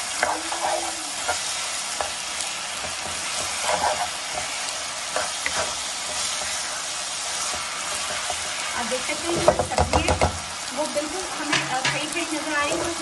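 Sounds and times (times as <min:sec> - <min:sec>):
spatula scraping and tapping pan: 0:00.0 - 0:06.8, 0:07.4 - 0:10.4, 0:11.4 - 0:13.0
food sizzling in a wok: 0:00.0 - 0:13.0.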